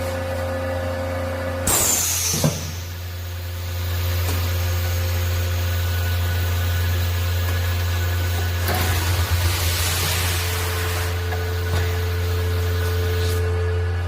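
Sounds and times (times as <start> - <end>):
packaging machine humming: 0.0 - 14.0.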